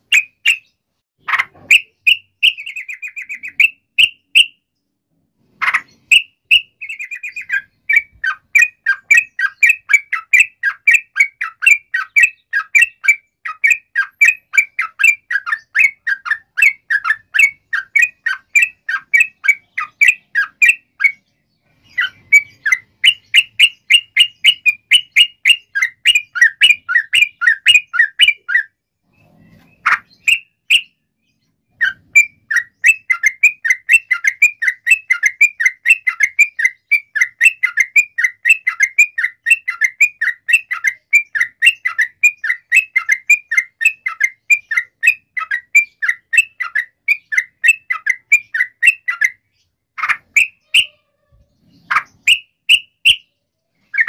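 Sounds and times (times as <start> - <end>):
bird singing rapid chattering runs: 5.5 - 50.9, 51.5 - 53.3.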